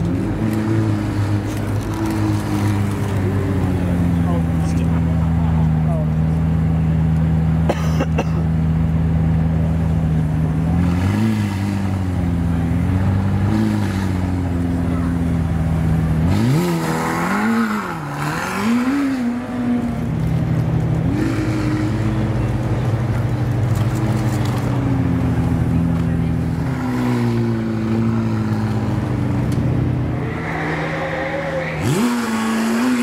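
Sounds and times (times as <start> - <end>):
car engine revving: 0.0 - 7.6, 8.5 - 33.0.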